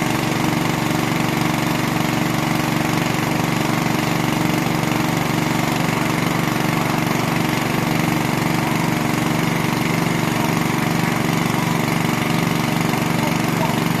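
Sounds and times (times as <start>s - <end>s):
drilling rig engine running: 0.0s - 14.0s.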